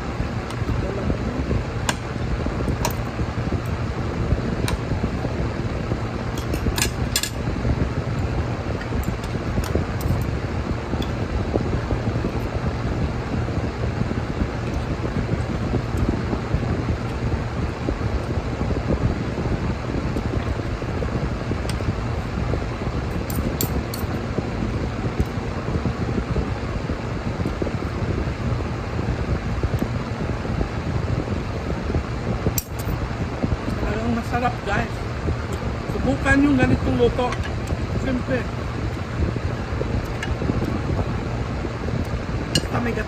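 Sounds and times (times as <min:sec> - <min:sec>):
steady low hum: 0:00.0 - 0:43.0
steady rushing noise: 0:00.0 - 0:43.0.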